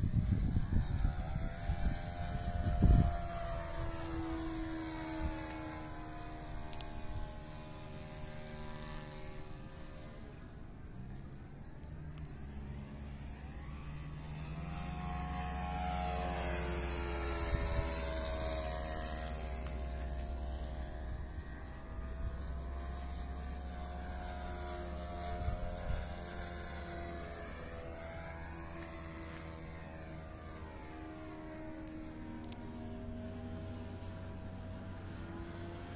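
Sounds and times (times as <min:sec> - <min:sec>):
model plane engine buzzing: 0:00.0 - 0:35.9.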